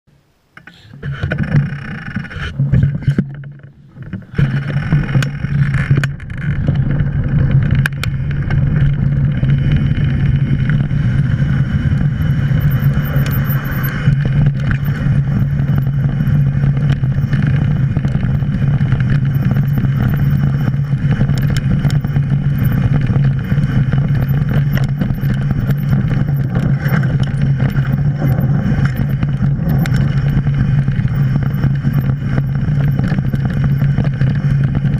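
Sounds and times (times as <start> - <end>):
clicks and rattles over rocks: 0.6 - 34.9
bike tyres rumbling on gravel: 1.2 - 34.9
wind on microphone: 2.3 - 34.9.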